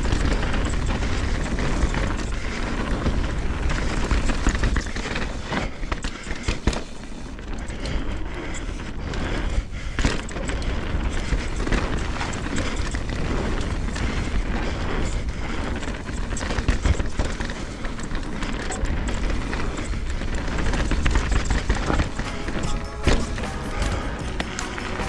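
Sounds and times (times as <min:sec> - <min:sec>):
bike knocks and rattles: 0:00.0 - 0:25.0
bike tyre noise: 0:00.0 - 0:25.0.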